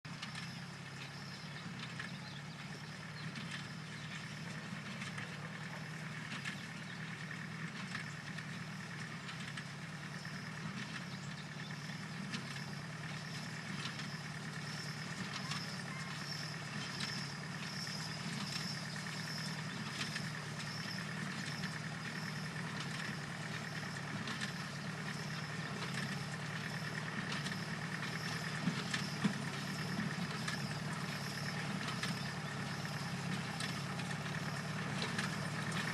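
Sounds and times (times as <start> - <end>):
tractor running: 0.0 - 35.9.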